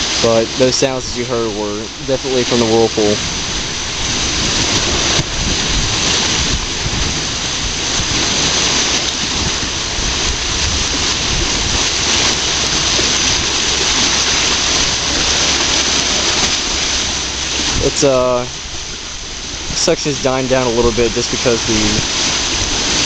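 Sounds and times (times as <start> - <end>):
water rushing into whirlpool: 0.0 - 23.0
wind rumbling on microphone: 0.0 - 23.0.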